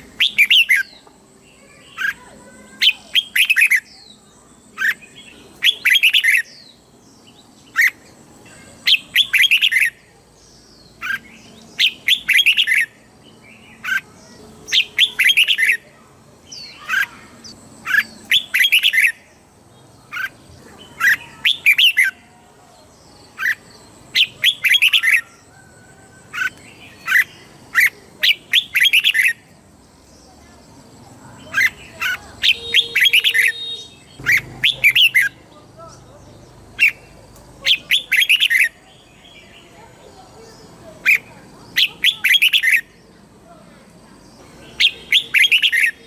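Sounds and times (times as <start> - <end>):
bulbul singing: 0.0 - 46.0.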